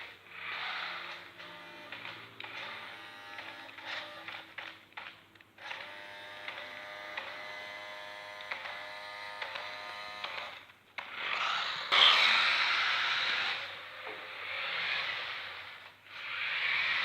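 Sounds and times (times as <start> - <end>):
small electric motor buzzing: 0.0 - 4.6, 5.6 - 17.0.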